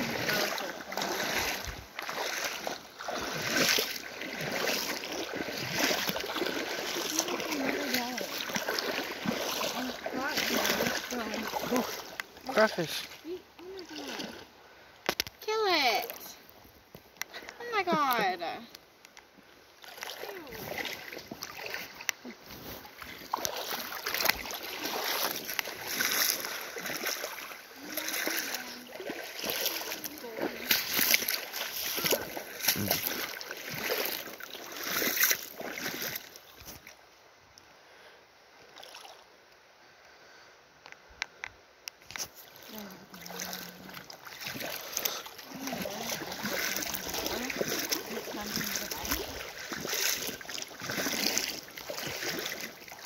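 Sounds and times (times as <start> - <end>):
water splashing around wading legs: 0.0 - 16.5, 19.8 - 37.0, 38.7 - 39.2, 42.1 - 53.0.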